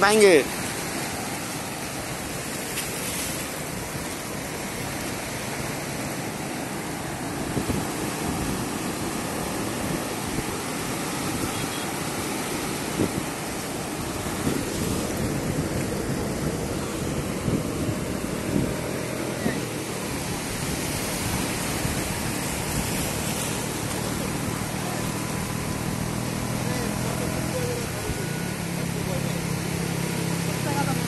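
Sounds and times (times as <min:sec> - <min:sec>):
waves washing over rocks: 0:00.0 - 0:31.0.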